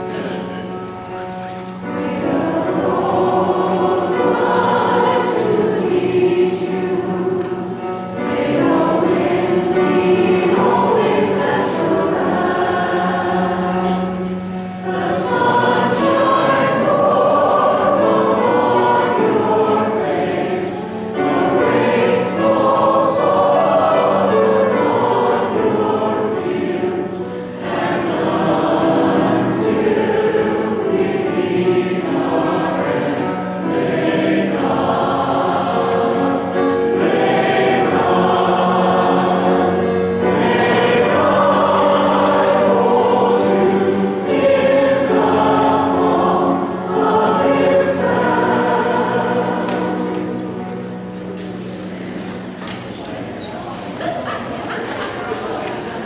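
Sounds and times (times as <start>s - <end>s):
group singing a hymn: 1.1s - 56.0s.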